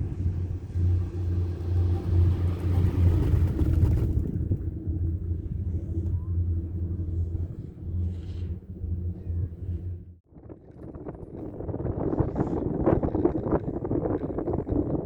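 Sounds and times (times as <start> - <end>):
chairlift machinery rumble: 0.0 - 15.0.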